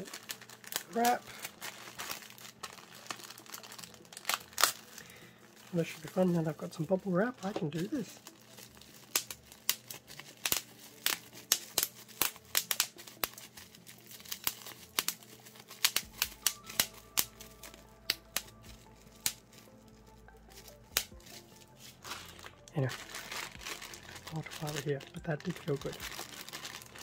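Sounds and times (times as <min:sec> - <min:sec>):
bubble wrap popping: 0:00.0 - 0:27.0
plastic crinkling: 0:00.0 - 0:27.0.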